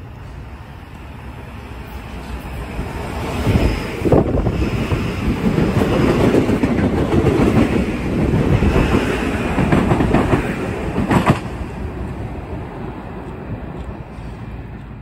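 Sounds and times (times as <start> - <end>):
train wheels rumbling and clacking: 1.8 - 15.0.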